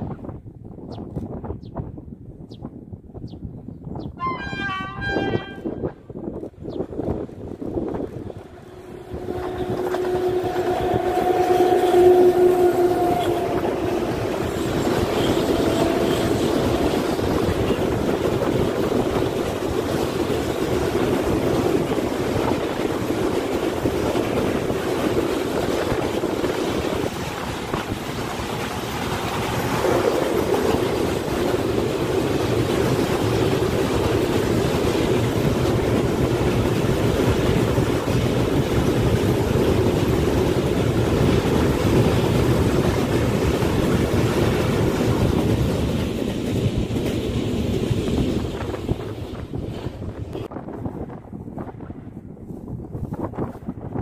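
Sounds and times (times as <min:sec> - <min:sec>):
steady locomotive tone: 0:04.1 - 0:54.0
train wheels rumbling on rail: 0:04.2 - 0:54.0.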